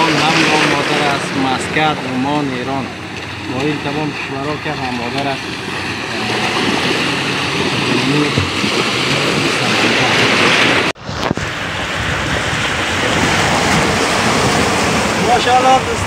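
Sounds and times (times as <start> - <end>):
sea waves breaking: 0.0 - 16.0
wind on microphone: 0.0 - 16.0.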